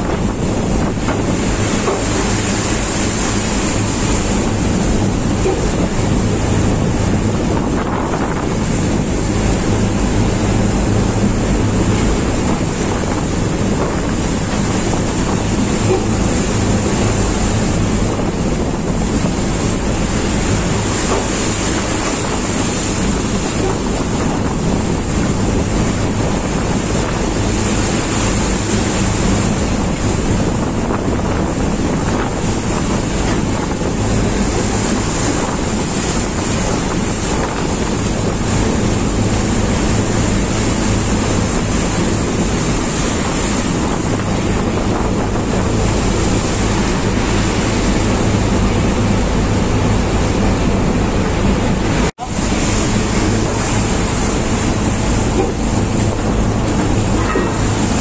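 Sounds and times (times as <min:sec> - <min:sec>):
heavy seas washing over deck: 0:00.0 - 0:58.0
storm wind: 0:00.0 - 0:58.0
wind buffeting microphone: 0:00.0 - 0:58.0.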